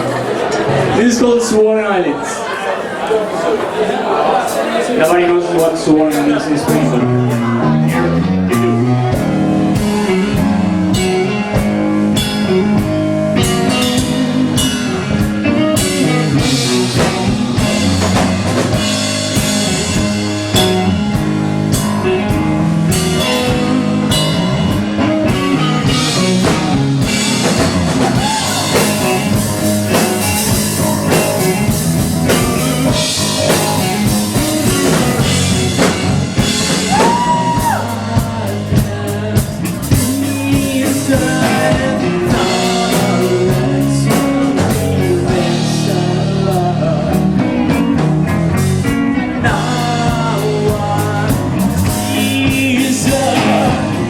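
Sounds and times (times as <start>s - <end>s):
drum kit beat: 4.4s - 54.0s
bass guitar: 4.9s - 54.0s
electric guitar: 6.4s - 54.0s.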